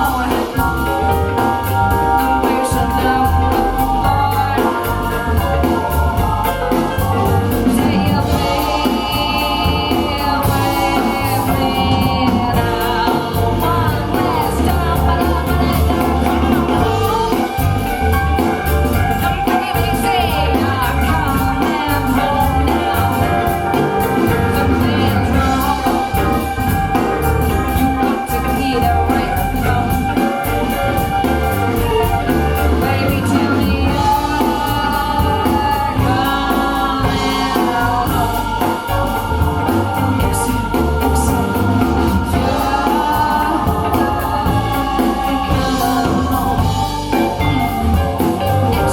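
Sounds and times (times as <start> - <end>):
song with singing and bass: 0.0 - 48.9.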